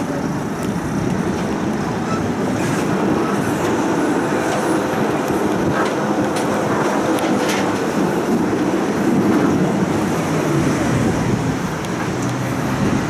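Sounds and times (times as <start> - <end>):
tram rumbling on track: 0.0 - 13.0.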